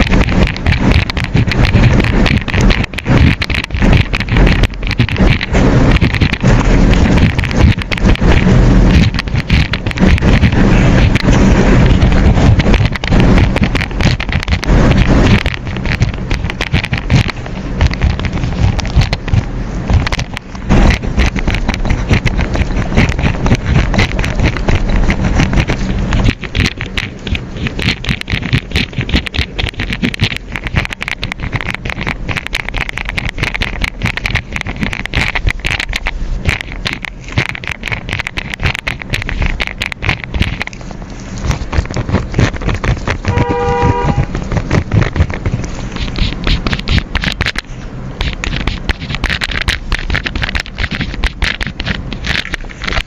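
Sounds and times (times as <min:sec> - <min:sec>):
small clicks and taps: 0:00.0 - 0:43.5, 0:44.1 - 0:53.0
low hum: 0:00.0 - 0:53.0
steady scratching: 0:00.0 - 0:53.0.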